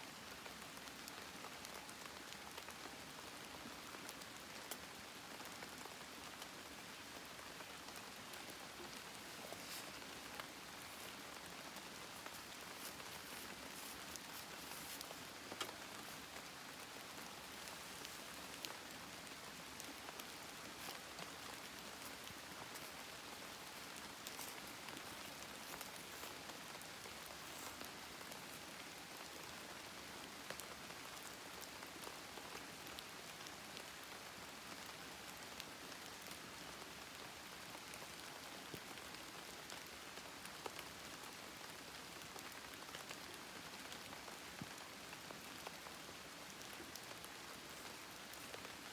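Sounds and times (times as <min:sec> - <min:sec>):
campfire crackling: 0:00.3 - 0:32.8, 0:41.7 - 0:48.9.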